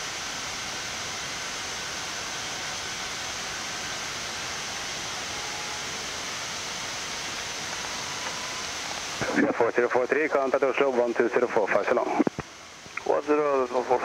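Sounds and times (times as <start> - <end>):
cockpit ventilation air hiss: 0.0 - 14.0.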